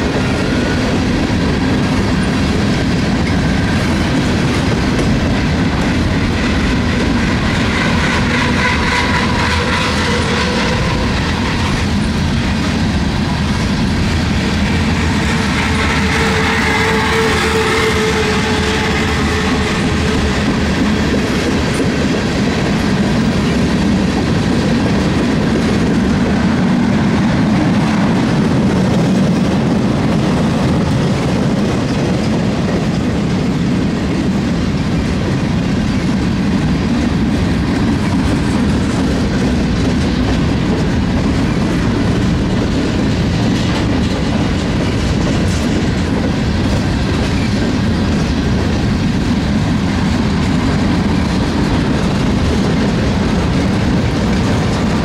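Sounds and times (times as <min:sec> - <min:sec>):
clattering over track: 0:00.0 - 0:55.0
freight train wheels rumbling: 0:00.0 - 0:55.0.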